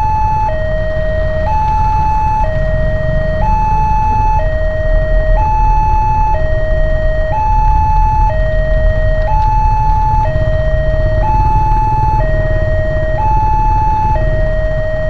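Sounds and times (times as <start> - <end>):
level crossing two-tone alarm: 0.0 - 15.0
motorcycle traffic rumble: 0.0 - 15.0.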